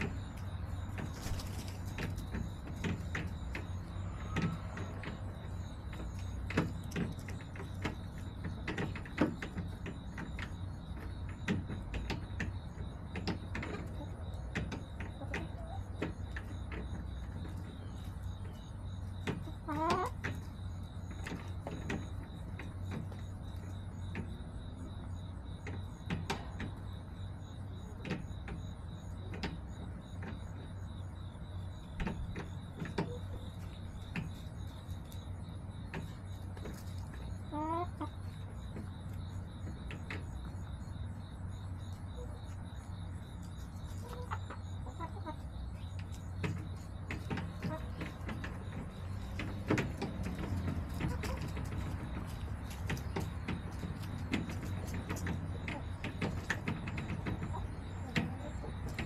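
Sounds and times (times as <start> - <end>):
hens clicking and tapping: 0.0 - 59.0.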